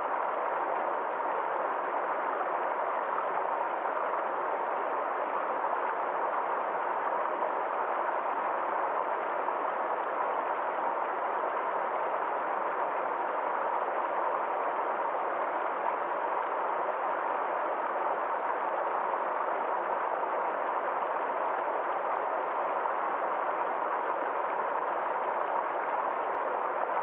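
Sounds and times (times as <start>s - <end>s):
forest stream flowing: 0.0s - 27.0s.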